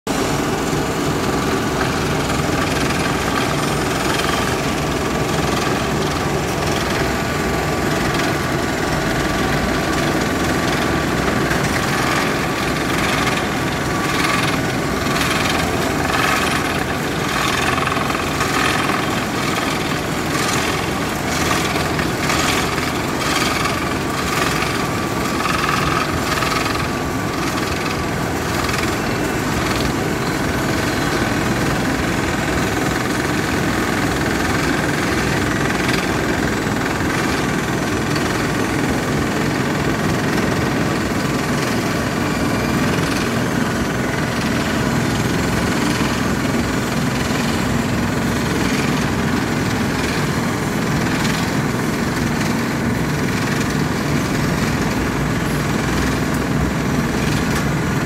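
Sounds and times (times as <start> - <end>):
regular mechanical pulsing: 0.1 - 58.0
road construction machine running: 0.1 - 58.0.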